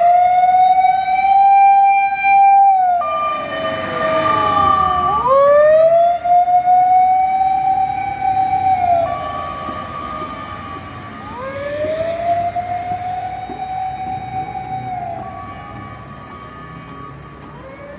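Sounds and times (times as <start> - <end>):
fire engine siren wailing: 0.0 - 17.9.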